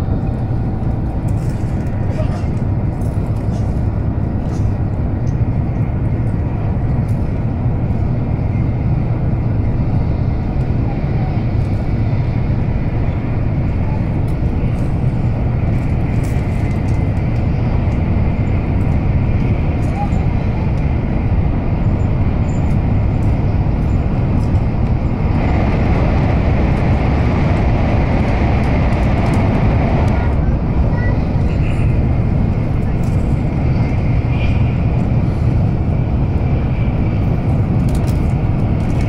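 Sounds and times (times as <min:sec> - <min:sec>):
train cabin rumble: 0:00.0 - 0:39.0.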